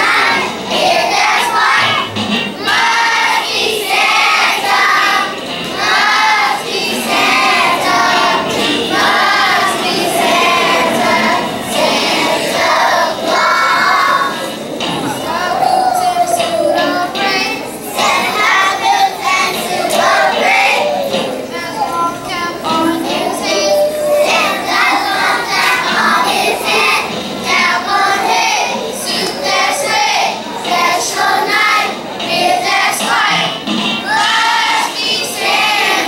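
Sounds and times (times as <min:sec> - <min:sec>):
children singing a christmas song: 0:00.0 - 0:36.0
musical accompaniment: 0:00.0 - 0:36.0.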